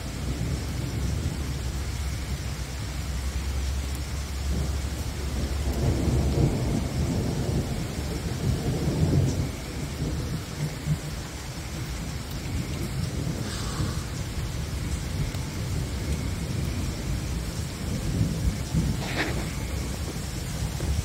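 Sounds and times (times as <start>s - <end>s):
steady rain: 0.0s - 21.0s
thunder rumbling: 0.0s - 21.0s.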